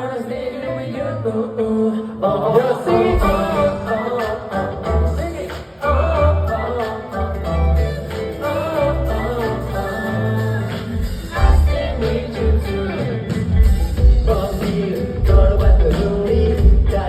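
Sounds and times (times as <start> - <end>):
person singing: 0.0 - 17.0
pop backing track with bass beat: 0.0 - 17.0.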